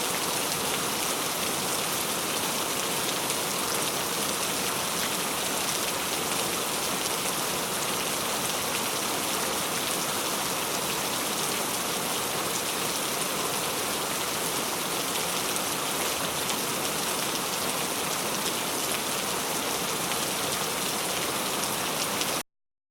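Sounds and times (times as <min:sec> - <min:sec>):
heavy rain on hard surfaces: 0:00.0 - 0:22.4.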